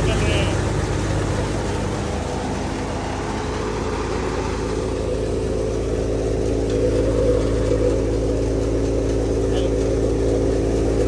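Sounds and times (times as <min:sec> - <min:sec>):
thresher machine hum: 0:00.0 - 0:11.0.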